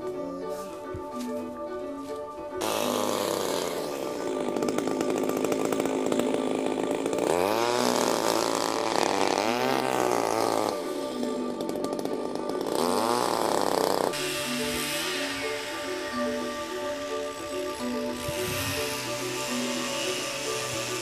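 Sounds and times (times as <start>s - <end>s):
chainsaw revving: 2.6s - 21.0s.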